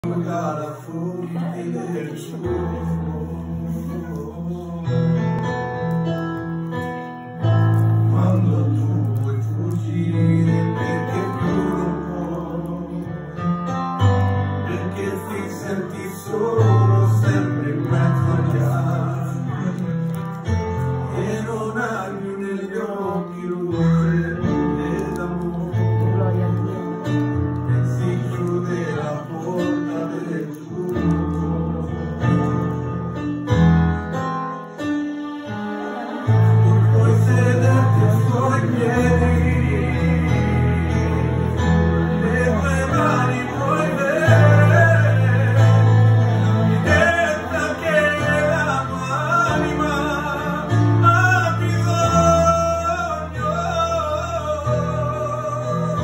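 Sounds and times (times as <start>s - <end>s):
man singing: 0.0s - 34.1s, 34.7s - 56.0s
electronic keyboard chords: 0.0s - 56.0s.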